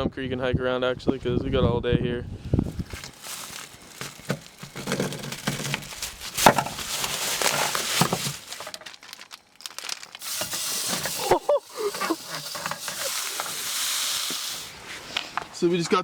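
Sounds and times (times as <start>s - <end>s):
crinkling and rustling: 2.6s - 16.0s.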